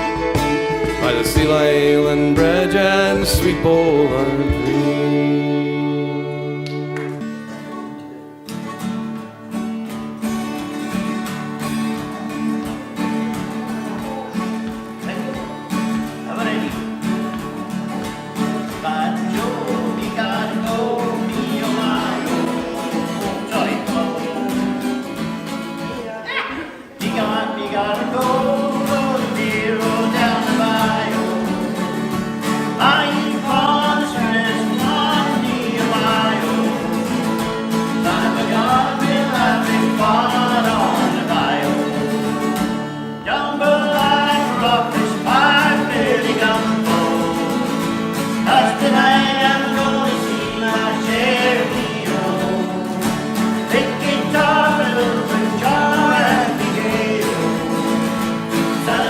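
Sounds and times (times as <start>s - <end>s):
person singing: 0.0s - 7.9s, 17.9s - 59.0s
acoustic guitar: 0.0s - 59.0s
country song: 0.0s - 59.0s.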